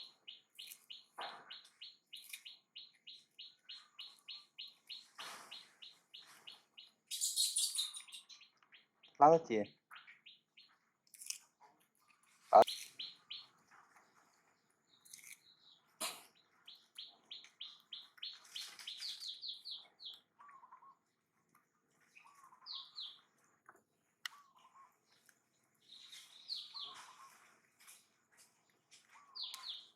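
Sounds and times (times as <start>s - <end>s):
birds chirping: 0.0s - 10.8s, 12.0s - 21.2s, 21.9s - 27.9s, 28.7s - 29.9s.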